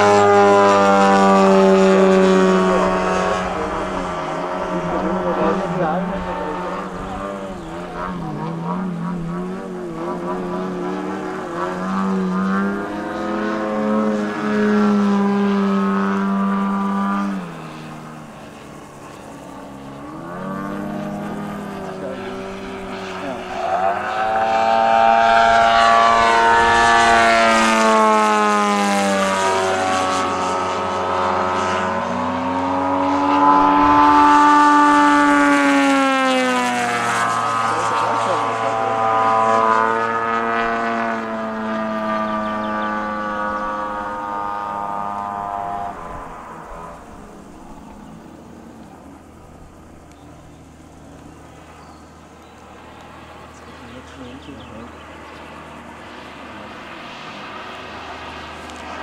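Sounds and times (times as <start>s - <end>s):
model plane engine: 0.0s - 59.0s.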